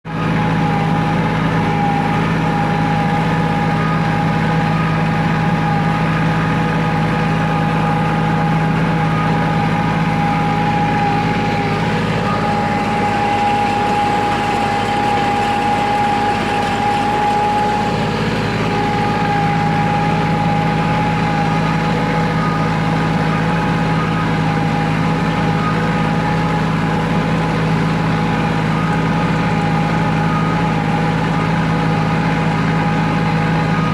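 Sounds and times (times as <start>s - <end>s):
tractor diesel engine running: 0.0s - 33.9s
steady whine: 0.1s - 33.9s.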